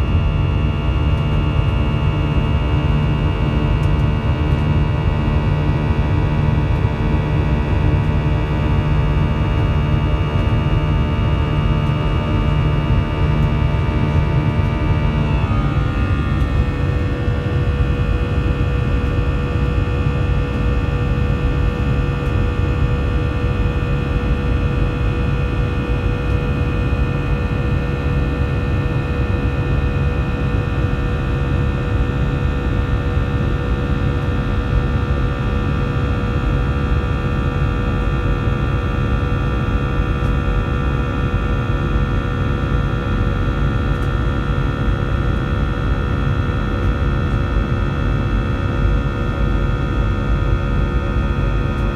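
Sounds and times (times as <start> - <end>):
jet engines rumbling and whining: 0.0 - 51.9.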